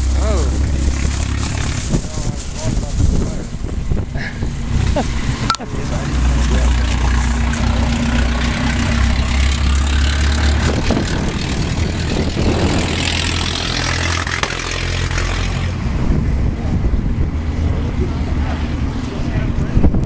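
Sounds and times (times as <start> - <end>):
car engine driving past: 0.0 - 3.4, 4.4 - 20.0.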